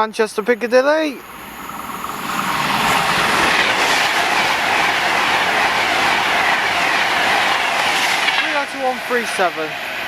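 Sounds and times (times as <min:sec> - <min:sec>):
electric train passing at speed: 0:00.0 - 0:10.0.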